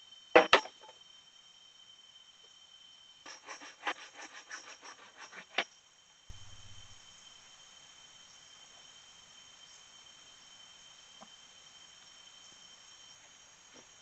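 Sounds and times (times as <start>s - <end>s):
high insect buzz: 0.0s - 14.0s.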